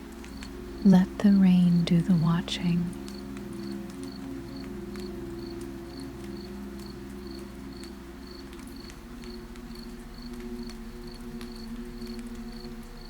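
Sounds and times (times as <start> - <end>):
crickets chirping: 0.0 - 1.8, 2.7 - 13.0
low steady hum: 0.0 - 13.0
soft steady rain: 0.0 - 13.0
water drips clicking: 0.0 - 13.0.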